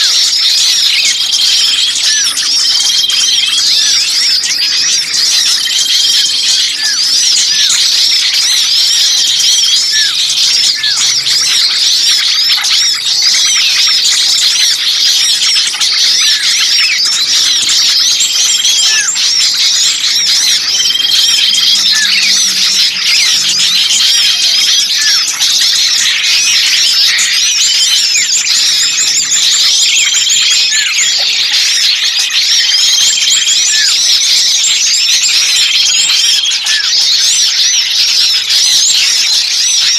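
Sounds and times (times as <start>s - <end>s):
songbirds chattering and chirping: 0.0s - 39.9s.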